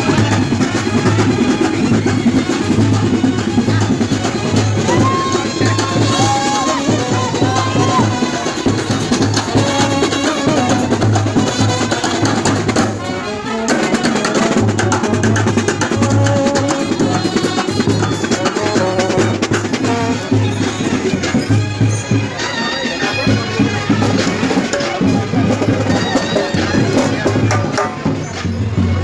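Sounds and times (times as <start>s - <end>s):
rapid dense drumming: 0.0s - 22.4s, 23.0s - 29.0s
wind instruments playing melody: 0.0s - 29.0s.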